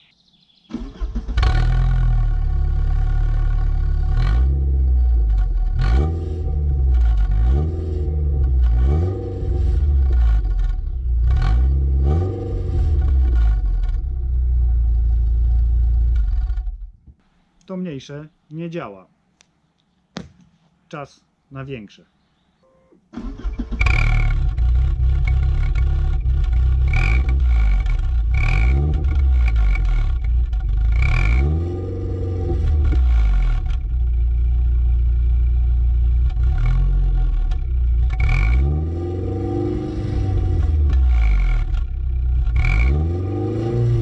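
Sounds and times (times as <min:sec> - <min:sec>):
car engine revving: 0:00.8 - 0:16.9, 0:23.2 - 0:44.0.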